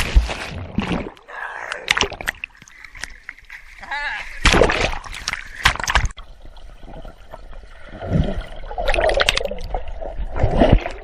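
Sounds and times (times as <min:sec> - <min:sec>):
pool water splashing and gurgling: 0:00.0 - 0:11.0.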